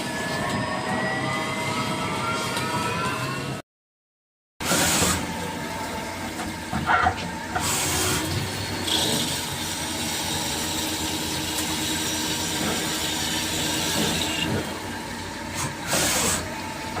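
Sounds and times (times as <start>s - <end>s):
cnc machine humming and whining: 0.0s - 3.6s, 5.0s - 17.0s.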